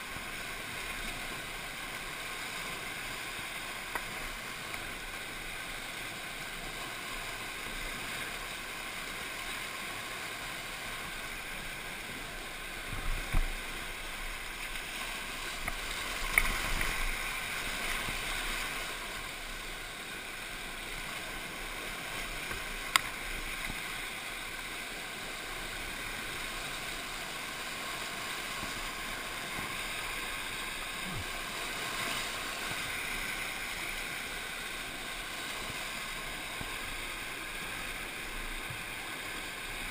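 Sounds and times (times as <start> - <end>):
river whitewater rushing: 0.0 - 39.9.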